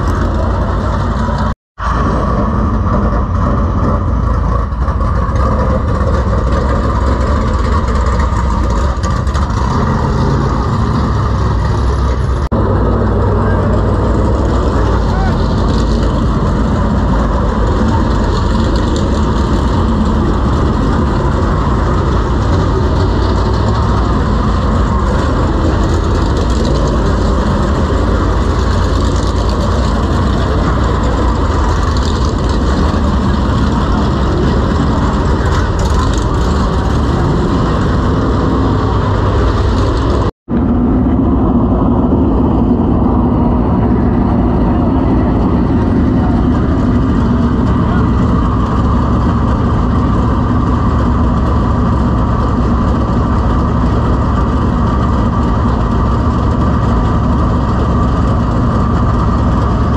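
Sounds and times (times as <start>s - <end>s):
race car engines running: 0.0s - 59.9s.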